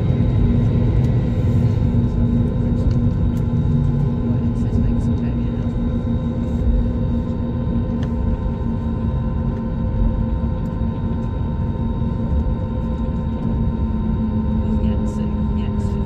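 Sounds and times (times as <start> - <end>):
airliner cabin rumble: 0.0 - 16.0
constant humming tones: 0.0 - 16.0.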